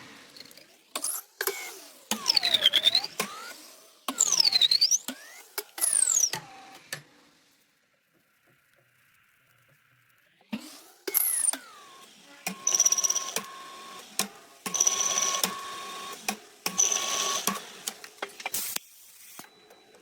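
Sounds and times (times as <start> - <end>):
small motor whining: 0.0 - 7.2, 10.4 - 20.0.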